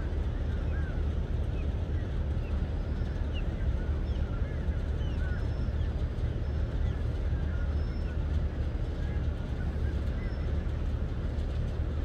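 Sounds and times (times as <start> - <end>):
ship engines low rumble: 0.0 - 12.0.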